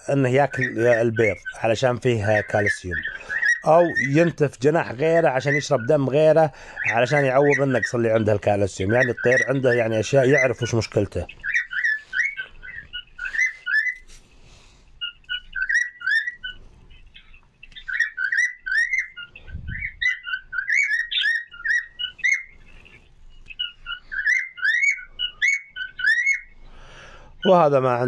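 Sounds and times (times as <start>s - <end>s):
caged birds chirping: 0.0s - 28.0s.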